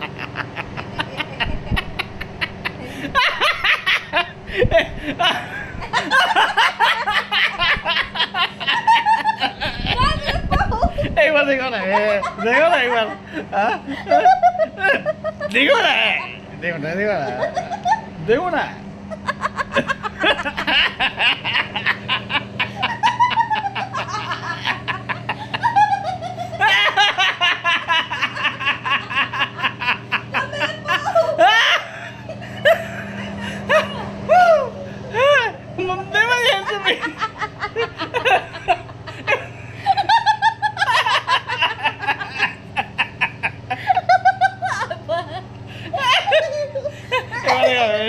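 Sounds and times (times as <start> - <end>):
man and woman laughing: 0.0 - 48.0.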